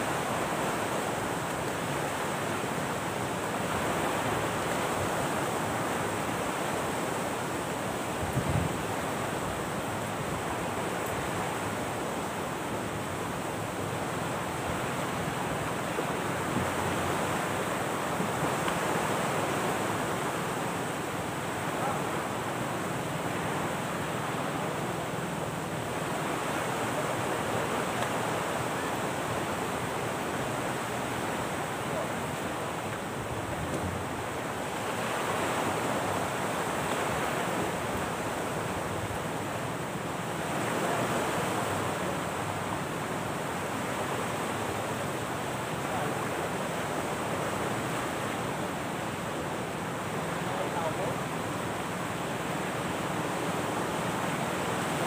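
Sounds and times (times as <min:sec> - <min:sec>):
surf washing on sandy shore: 0:00.0 - 0:55.0
wind: 0:00.0 - 0:55.0.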